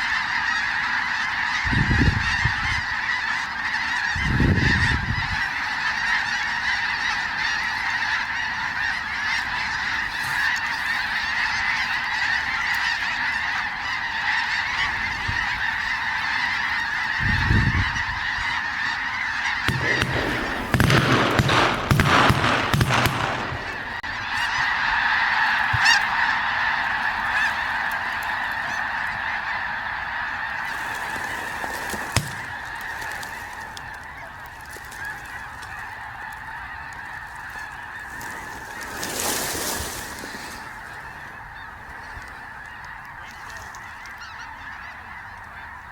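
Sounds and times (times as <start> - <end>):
snow geese honking: 0.0 - 45.9.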